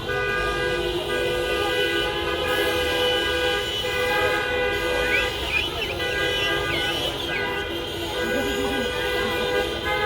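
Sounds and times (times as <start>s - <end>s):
car horns honking: 0.0s - 10.0s.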